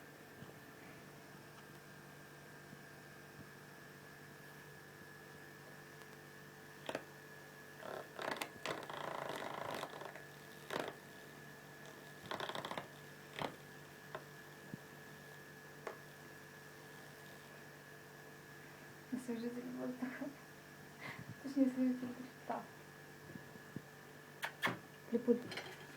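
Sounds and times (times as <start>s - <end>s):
electric fan humming: 0.0s - 25.9s.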